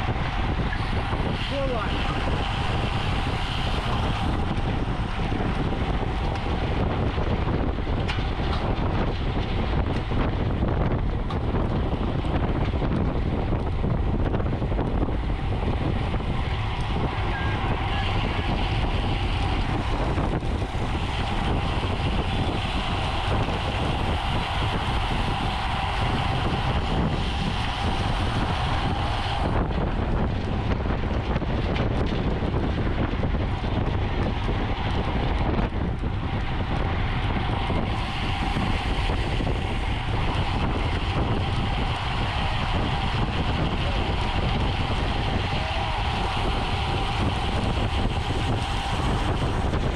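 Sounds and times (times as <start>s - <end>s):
road noise: 0.0s - 49.9s
wind rushing over microphone: 0.0s - 49.9s.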